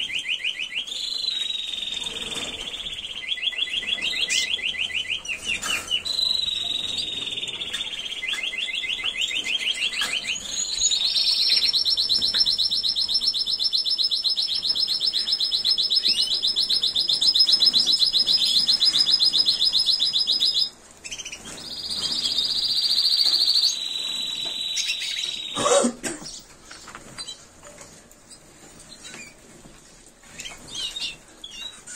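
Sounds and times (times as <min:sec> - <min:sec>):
canary singing trills: 0:00.0 - 0:29.6, 0:30.2 - 0:31.9.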